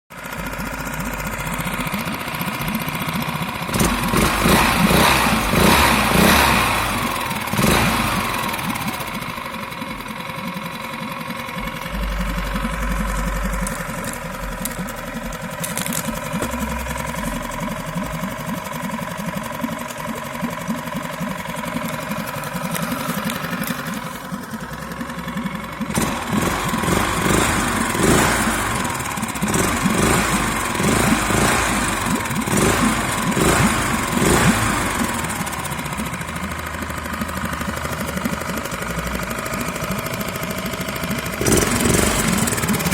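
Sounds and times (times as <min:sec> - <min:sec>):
two-stroke outboard motor running: 0:00.1 - 0:42.9.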